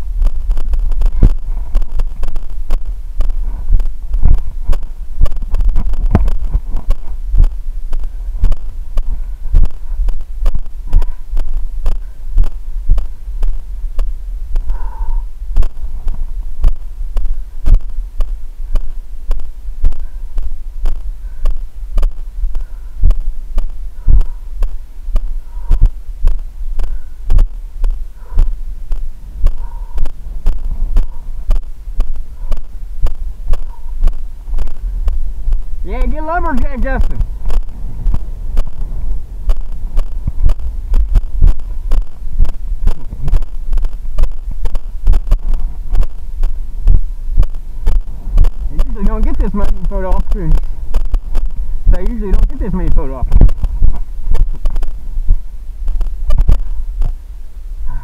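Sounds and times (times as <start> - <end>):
running footfall thuds: 0.0 - 14.8, 15.6 - 57.2
low microphone rumble: 0.0 - 58.0.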